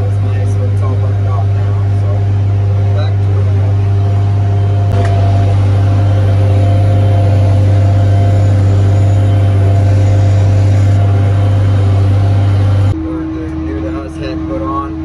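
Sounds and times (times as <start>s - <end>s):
tractor engine droning under load: 0.0s - 14.8s.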